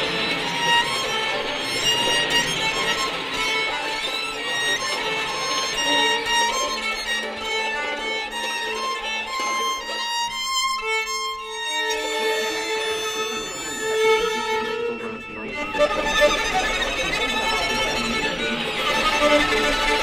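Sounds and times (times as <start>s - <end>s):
violins bowing sustained notes: 0.0s - 20.0s.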